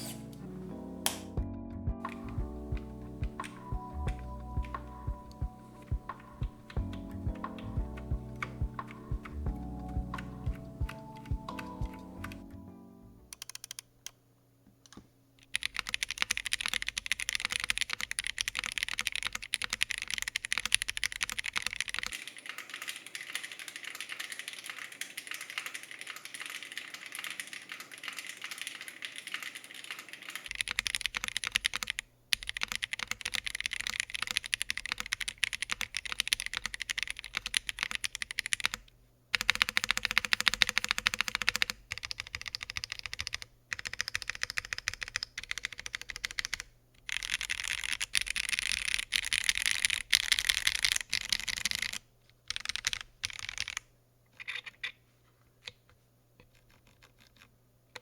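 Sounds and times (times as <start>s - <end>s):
mechanical keyboard typing: 2.1s - 12.5s, 13.3s - 14.2s, 14.9s - 54.9s, 56.4s - 58.0s.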